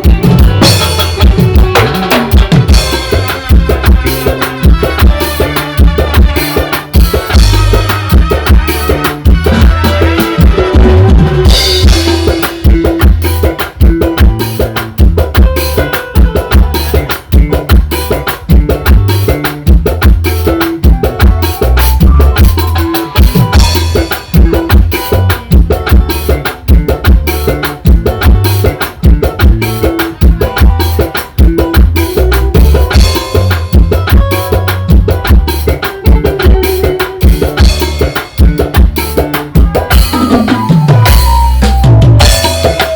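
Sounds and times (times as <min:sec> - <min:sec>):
drum kit beat: 0:00.0 - 0:42.9
heavy bass line: 0:00.0 - 0:42.9
loud band music: 0:00.0 - 0:42.9.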